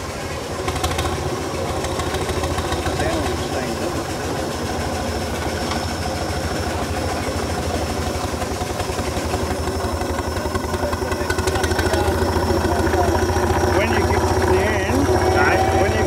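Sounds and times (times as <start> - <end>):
steam traction engine running: 0.0 - 16.0.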